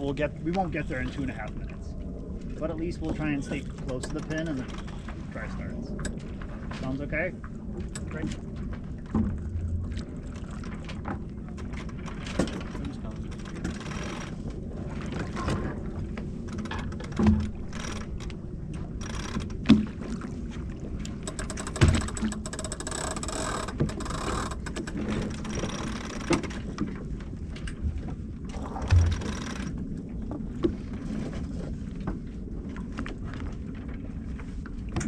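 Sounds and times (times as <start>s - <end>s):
rush of wind and water: 0.0s - 35.0s.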